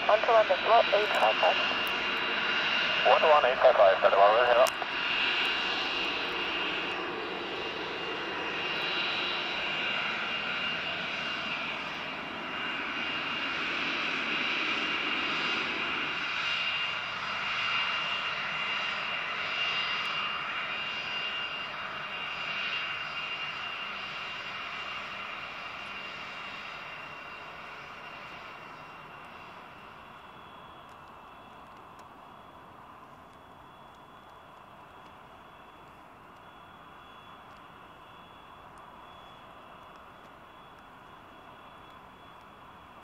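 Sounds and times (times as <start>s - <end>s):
jet engines whining: 0.0s - 43.0s.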